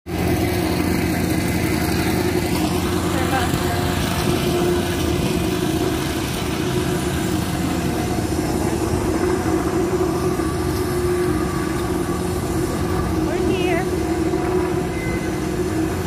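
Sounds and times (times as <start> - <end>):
engine hum: 0.1 - 16.0.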